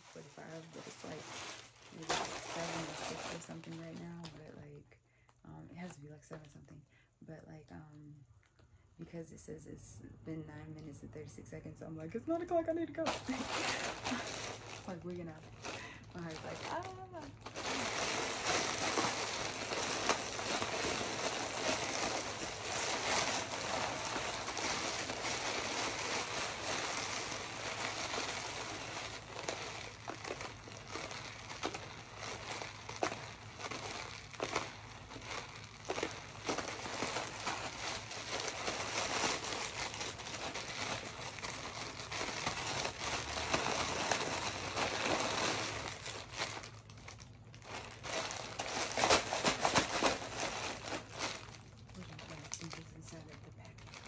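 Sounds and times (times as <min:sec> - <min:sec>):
plastic package crinkling: 0:00.0 - 0:04.7, 0:12.1 - 0:54.0.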